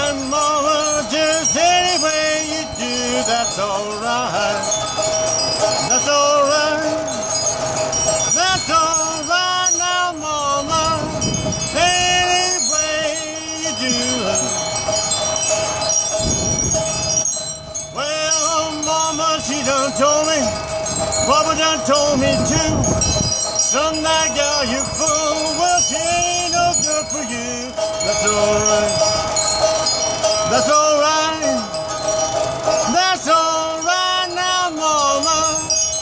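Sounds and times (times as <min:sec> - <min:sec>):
music with chiming sliding tones: 0:00.0 - 0:36.0
steady held tone: 0:00.0 - 0:36.0.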